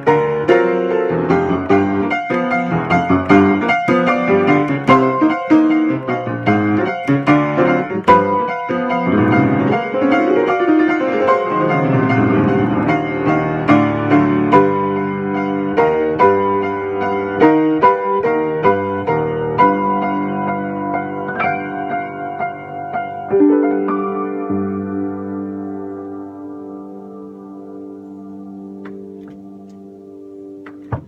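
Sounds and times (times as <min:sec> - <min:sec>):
funky piano piece: 0:00.0 - 0:31.0.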